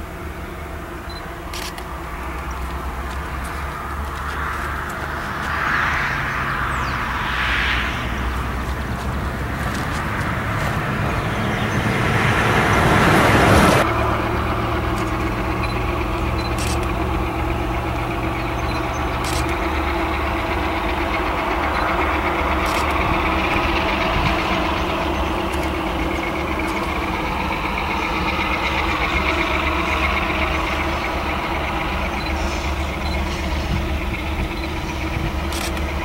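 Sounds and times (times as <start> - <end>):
wagons rolling over rails: 0.0 - 7.2, 7.8 - 36.0
locomotive engine rumble: 0.0 - 36.0
loud rushing noise: 0.0 - 36.0.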